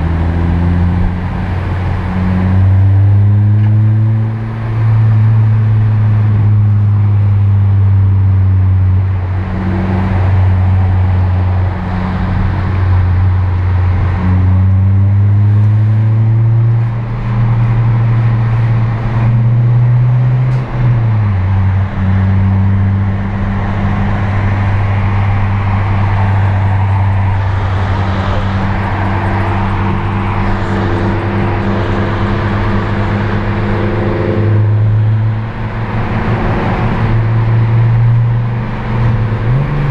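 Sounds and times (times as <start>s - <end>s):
car engine under load: 0.0s - 39.9s
tyre and road noise: 0.0s - 39.9s.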